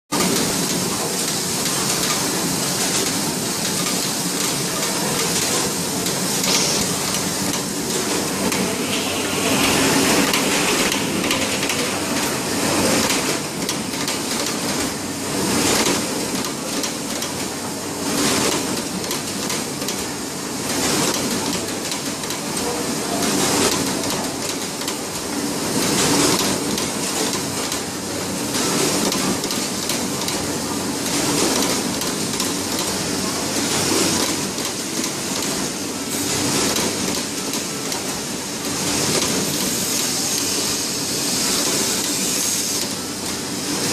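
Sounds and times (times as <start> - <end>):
workshop machinery din: 0.1 - 43.9.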